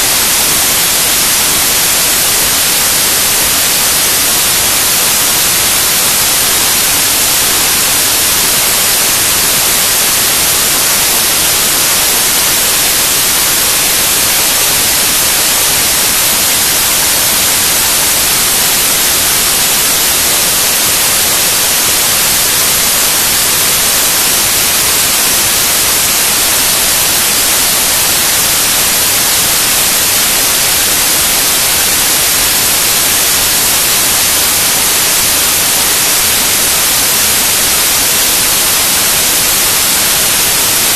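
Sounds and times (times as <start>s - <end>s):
loud static hiss: 0.0s - 40.9s.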